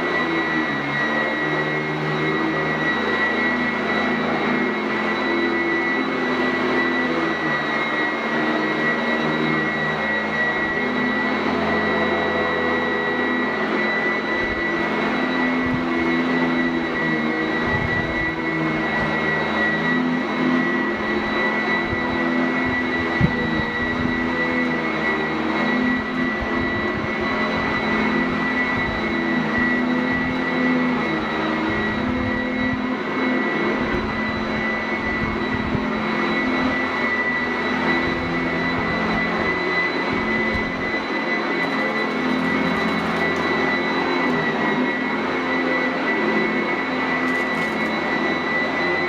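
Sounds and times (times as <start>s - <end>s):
upright vacuum running on carpet: 0.0s - 49.0s.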